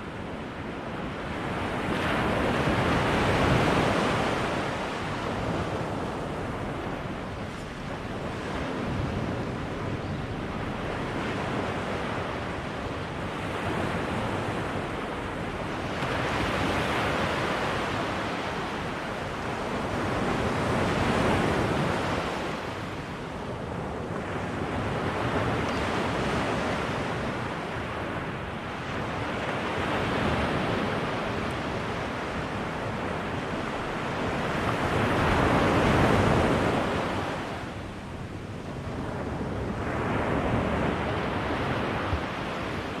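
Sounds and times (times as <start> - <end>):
ocean waves breaking on beach: 0.0 - 43.0.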